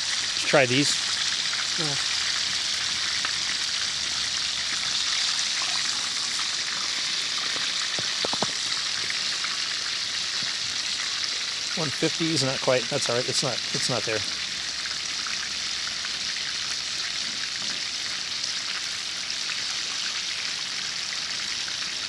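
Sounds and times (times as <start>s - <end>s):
chicken deep-frying in oil: 0.0s - 22.0s.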